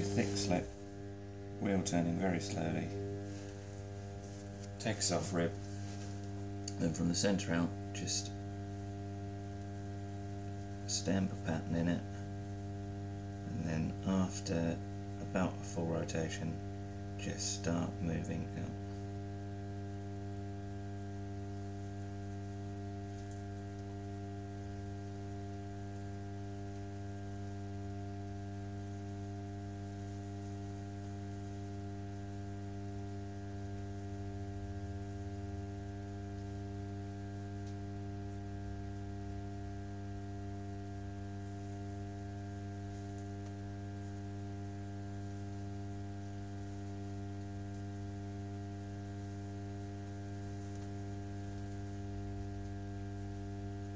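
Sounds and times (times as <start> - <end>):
pottery wheel motor humming: 0.0 - 53.9.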